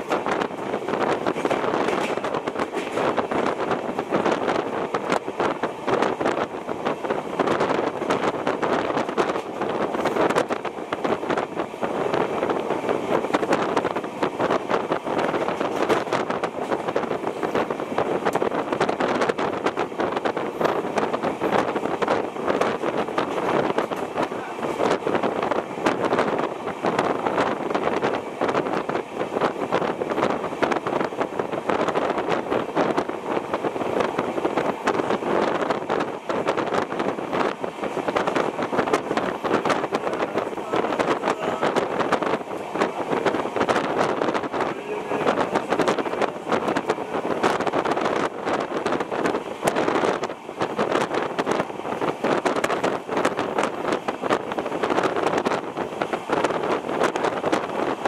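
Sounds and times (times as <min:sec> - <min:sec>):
train wind and running noise: 0:00.0 - 0:58.0.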